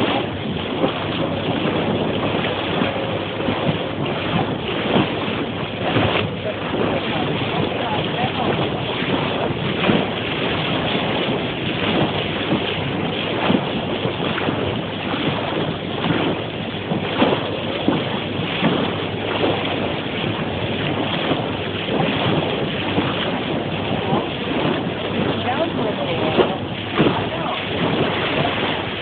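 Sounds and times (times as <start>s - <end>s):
water rushing at boat bow: 0.0s - 29.0s
wind buffeting microphone: 0.0s - 29.0s.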